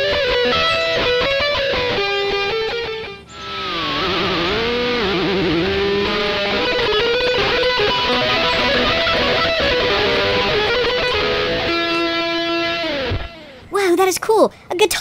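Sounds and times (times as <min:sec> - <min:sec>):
electric guitar lead line: 0:00.0 - 0:13.7.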